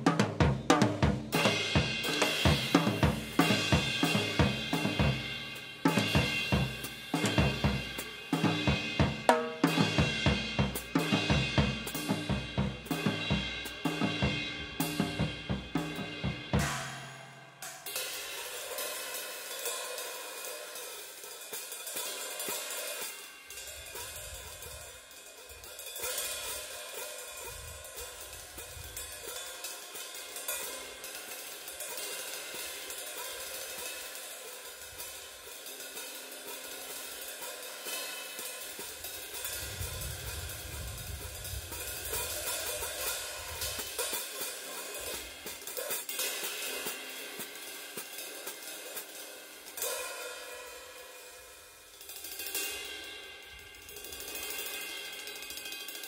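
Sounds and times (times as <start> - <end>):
cymbal and hi-hat playing: 0.0 - 56.0
fast drum kit solo: 0.0 - 56.0.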